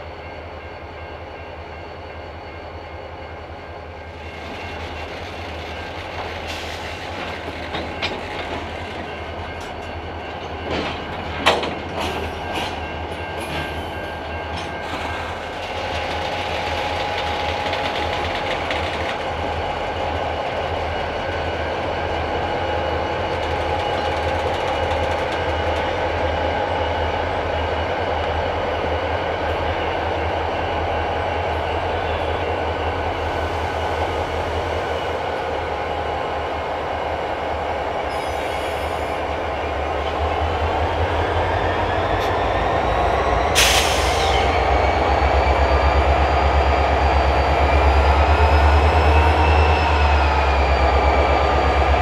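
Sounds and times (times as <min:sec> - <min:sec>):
diesel locomotive engine drone: 0:00.0 - 0:52.0.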